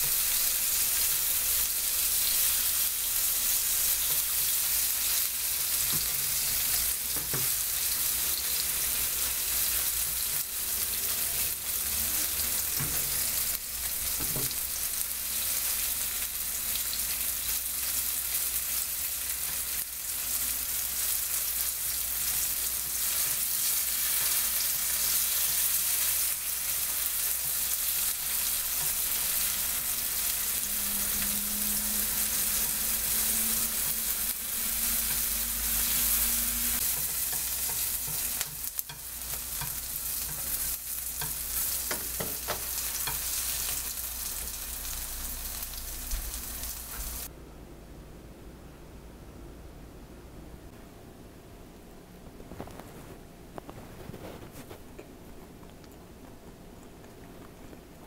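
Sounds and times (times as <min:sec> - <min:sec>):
food sizzling in hot oil: 0:00.0 - 0:47.3.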